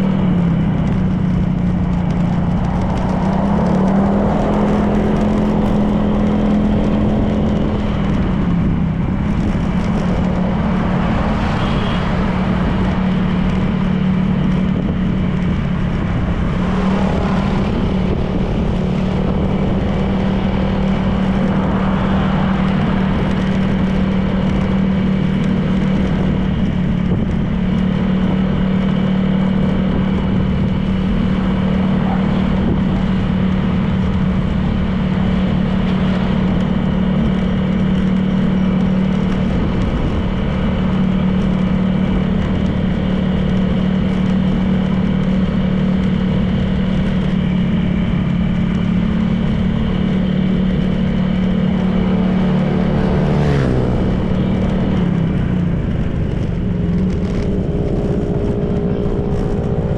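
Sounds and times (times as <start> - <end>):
road and wind noise: 0.0 - 59.9
scooter engine running: 0.0 - 59.9.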